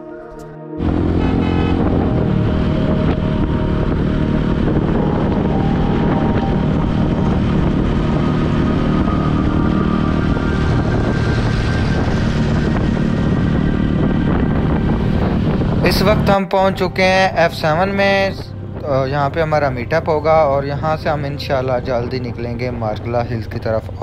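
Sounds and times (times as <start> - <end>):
vehicle engine and road noise: 0.8 - 24.0
wind buffeting microphone: 0.8 - 24.0.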